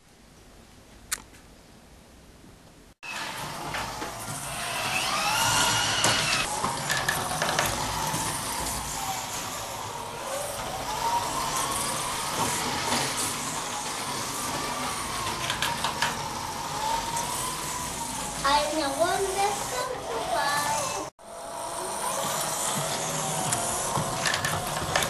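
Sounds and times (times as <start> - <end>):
small electric motor whine: 3.1 - 25.0.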